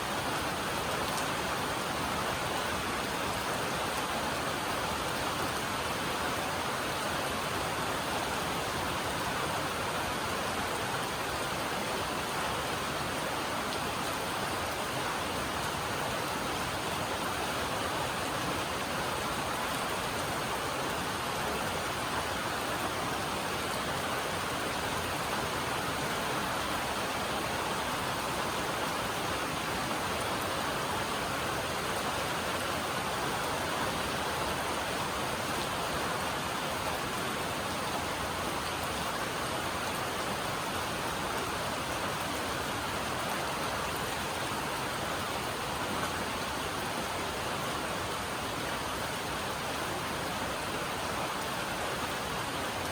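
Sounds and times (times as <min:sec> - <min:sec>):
heavy rain on a metal roof: 0:00.0 - 0:52.9.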